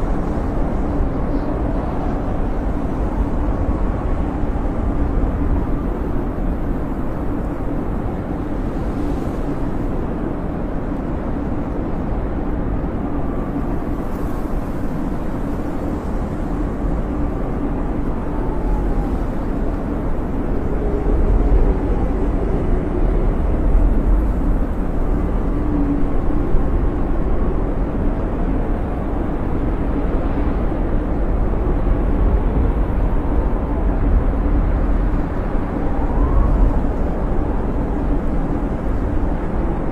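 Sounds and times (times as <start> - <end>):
snowstorm wind blowing: 0.0 - 39.9.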